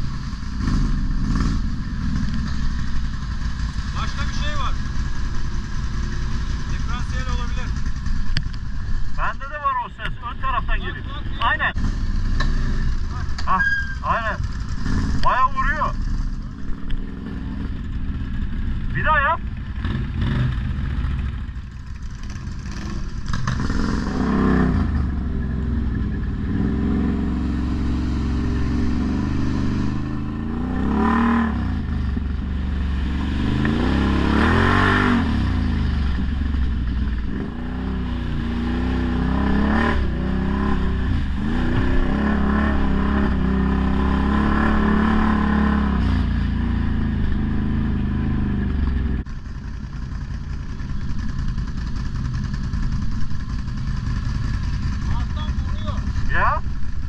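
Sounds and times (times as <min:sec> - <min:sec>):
atv engines revving: 0:00.0 - 0:57.0.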